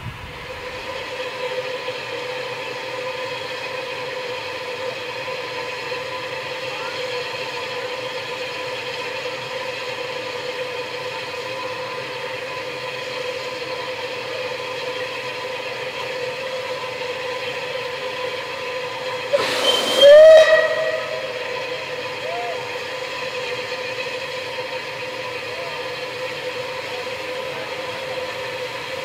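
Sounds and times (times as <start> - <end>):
train rumbling: 0.0 - 29.0
locomotive whistle blowing: 0.5 - 29.0.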